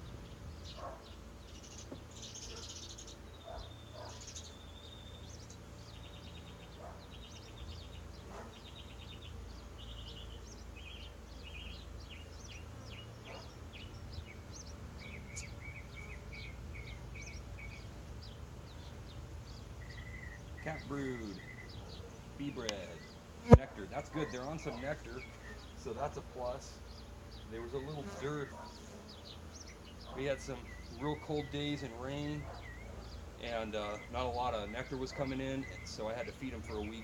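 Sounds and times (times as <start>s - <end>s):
small birds chirping and trilling: 0.0s - 37.0s.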